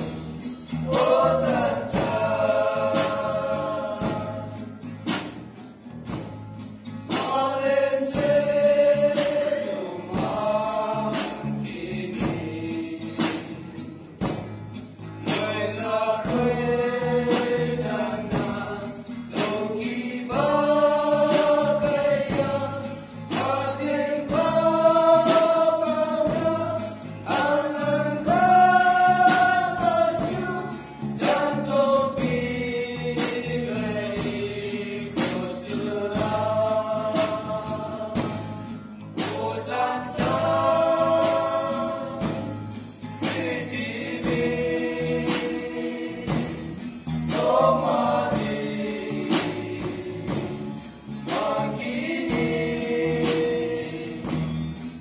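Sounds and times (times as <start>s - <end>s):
men's group singing gospel: 0.0s - 6.2s, 6.8s - 55.0s
strummed acoustic guitar: 0.0s - 55.0s.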